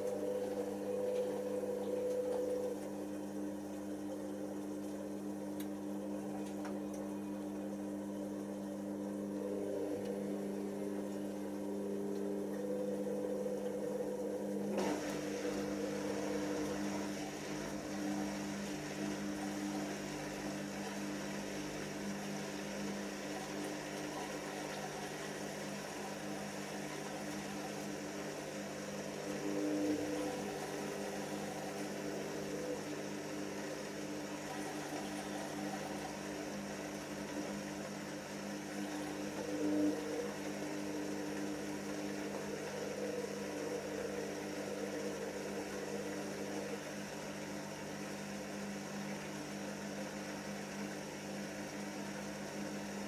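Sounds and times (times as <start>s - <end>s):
washing machine drain pump humming: 0.0s - 53.0s.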